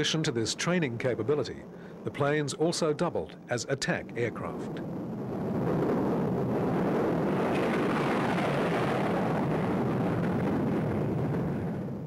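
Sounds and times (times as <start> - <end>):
loud jet engine noise: 0.0 - 12.0.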